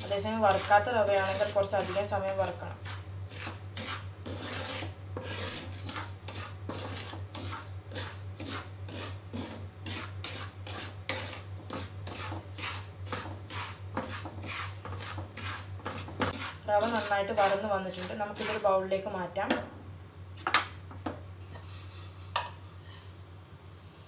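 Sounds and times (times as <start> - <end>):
spatula scraping semolina in pan: 0.0 - 18.8, 21.4 - 24.0.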